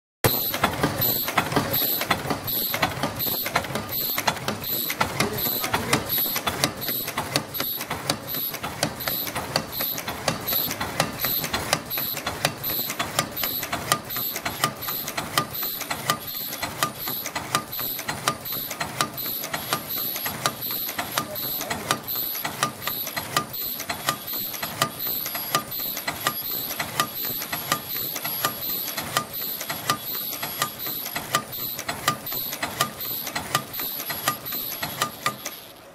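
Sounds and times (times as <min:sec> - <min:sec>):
high-pitched machine pulse: 0:00.3 - 0:35.9
machine mechanical clatter: 0:00.3 - 0:35.9.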